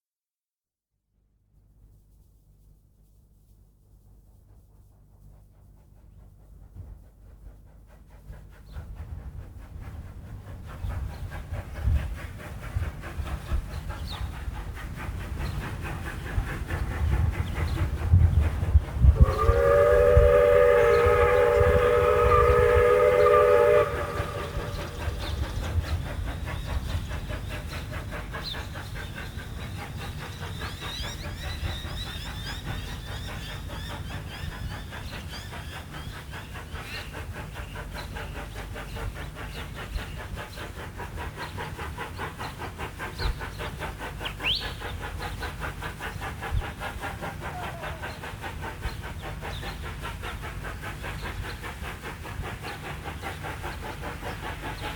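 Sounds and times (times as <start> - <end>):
steam locomotive rumble: 1.7 - 54.9.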